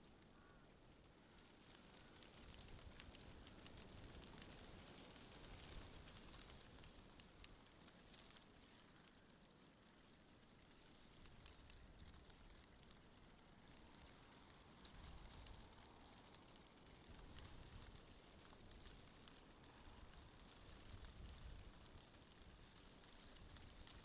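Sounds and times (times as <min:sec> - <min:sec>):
light ticks and crackles: 0:00.0 - 0:24.0.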